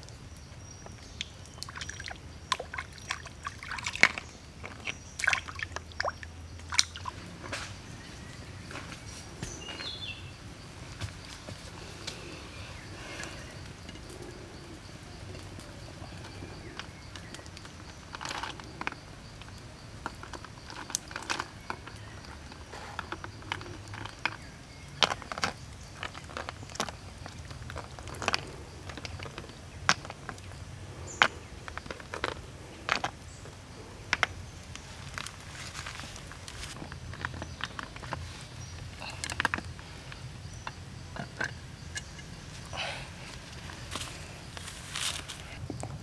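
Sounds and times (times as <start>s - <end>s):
snail shells clicking on clay pot: 0.3s - 8.8s, 12.0s - 42.6s.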